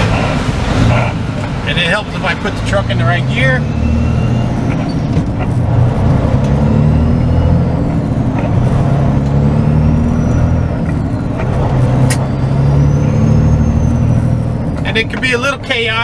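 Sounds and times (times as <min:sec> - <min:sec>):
truck diesel engine pulling away: 0:00.0 - 0:16.0.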